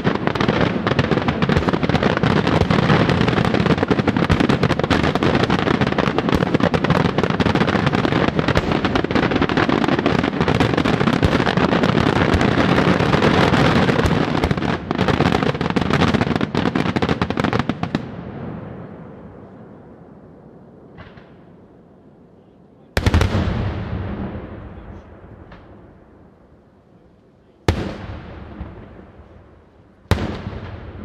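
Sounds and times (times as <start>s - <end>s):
fireworks bangs and crackling: 0.0s - 21.9s, 22.9s - 31.0s.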